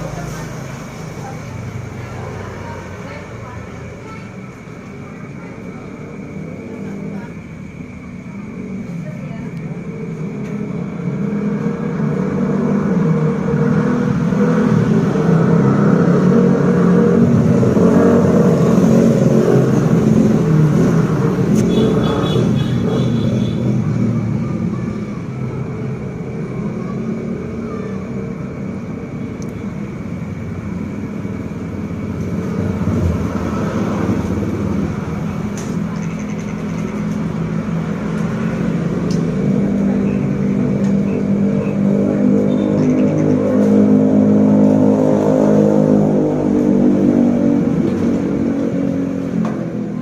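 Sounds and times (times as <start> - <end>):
road noise: 0.0 - 50.0
vehicle engine running: 0.0 - 50.0.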